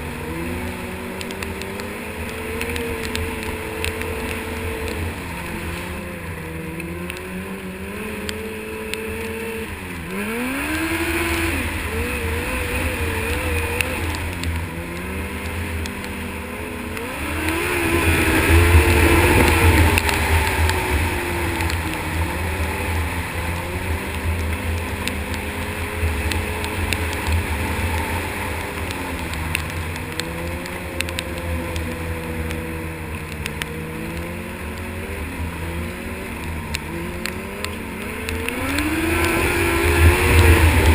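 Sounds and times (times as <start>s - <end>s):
snowmobile engine revving: 0.0s - 40.9s
wind and track noise: 0.0s - 40.9s.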